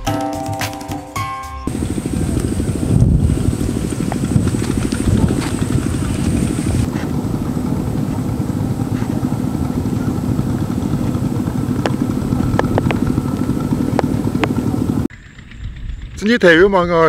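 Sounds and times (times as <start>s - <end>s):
small motorcycle engine running: 1.7s - 17.0s.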